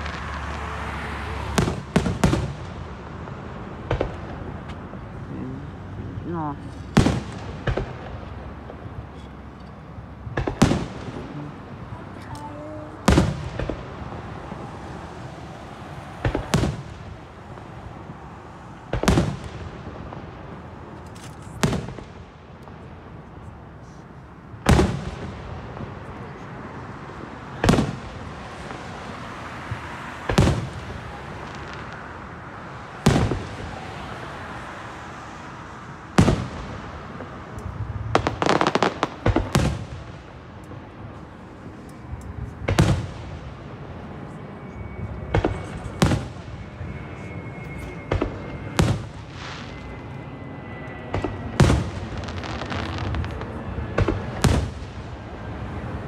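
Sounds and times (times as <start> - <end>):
fireworks bursting with sharp bangs: 0.0 - 5.2, 6.2 - 24.0, 24.6 - 56.0.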